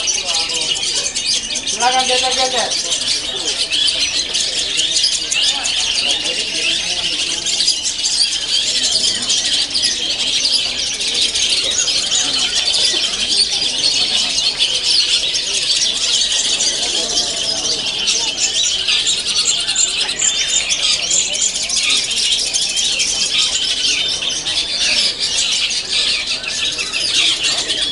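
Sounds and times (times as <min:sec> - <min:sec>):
shrill chorus of birds singing: 0:00.0 - 0:27.9.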